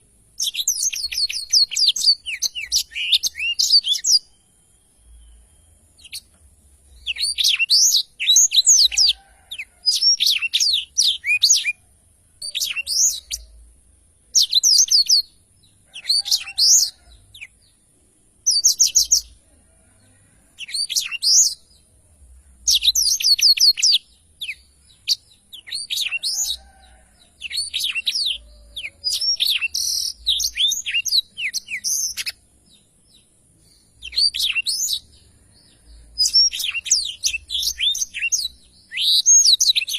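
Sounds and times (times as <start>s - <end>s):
canary twittering song: 0.0s - 11.8s, 12.4s - 17.8s, 18.4s - 39.9s.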